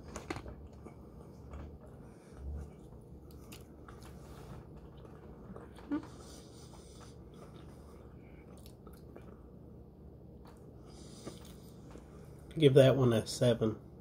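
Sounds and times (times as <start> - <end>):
chewing food: 0.0 - 12.6.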